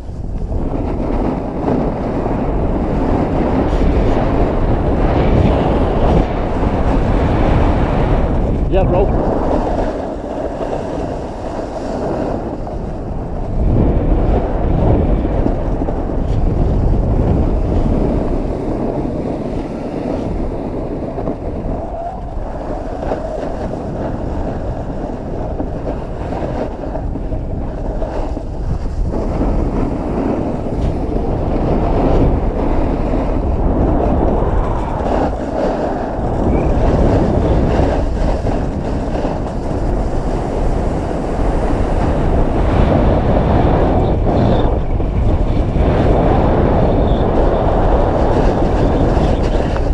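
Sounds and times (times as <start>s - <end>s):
wind buffeting microphone: 0.0s - 49.9s
skis scraping on packed snow: 0.1s - 44.4s, 47.3s - 49.9s.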